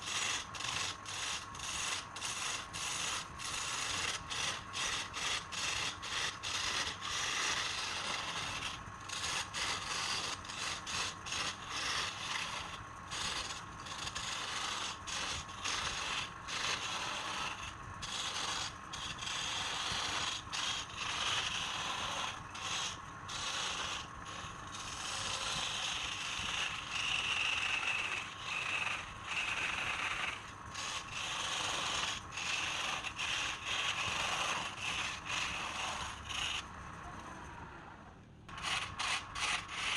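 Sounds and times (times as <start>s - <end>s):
lathe tool scraping spinning wood: 0.0s - 37.2s, 38.5s - 39.9s.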